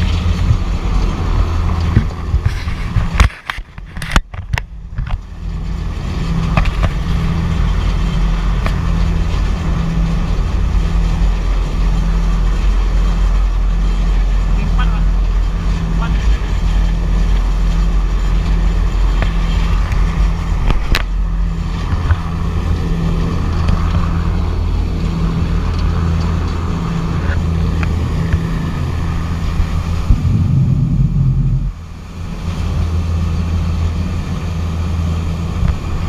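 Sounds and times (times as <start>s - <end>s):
ferry engine drone: 0.0s - 36.0s
water rushing in wake: 0.0s - 36.0s.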